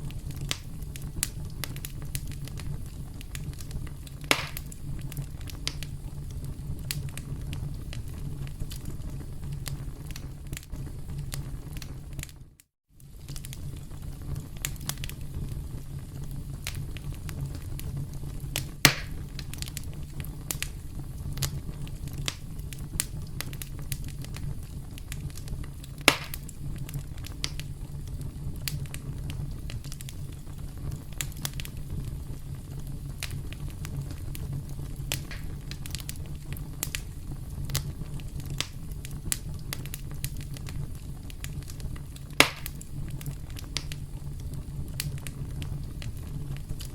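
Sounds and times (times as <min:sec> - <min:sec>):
low steady rumble: 0:00.0 - 0:12.3, 0:13.0 - 0:46.9
campfire crackling and popping: 0:00.0 - 0:46.9
loud fire snaps: 0:00.0 - 0:46.9.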